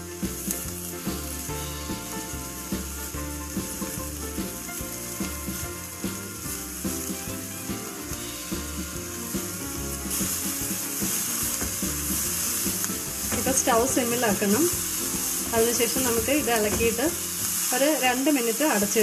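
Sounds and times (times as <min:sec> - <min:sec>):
background music with beat: 0:00.0 - 0:17.4
spinach sizzling in a pan: 0:00.0 - 0:19.0
spatula stirring: 0:00.1 - 0:19.0.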